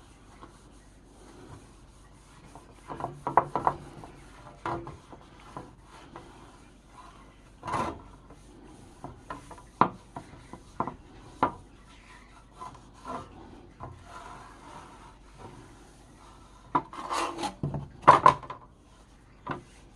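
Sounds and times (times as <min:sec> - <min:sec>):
scraping strokes on a saw: 0:00.0 - 0:17.7.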